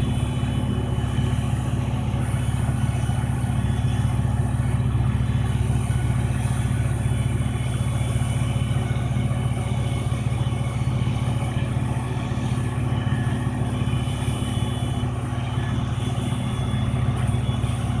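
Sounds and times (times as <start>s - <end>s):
wood chipper engine droning: 0.0s - 18.0s.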